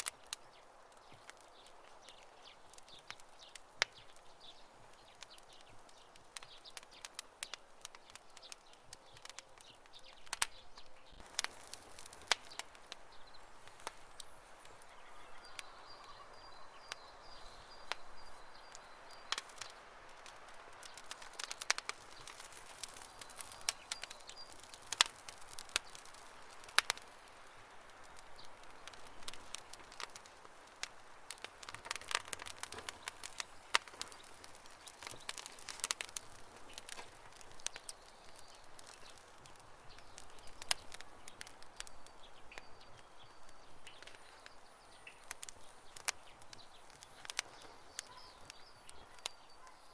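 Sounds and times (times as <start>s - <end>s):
burning wood popping: 0.0s - 49.9s
campfire crackling: 0.0s - 49.9s.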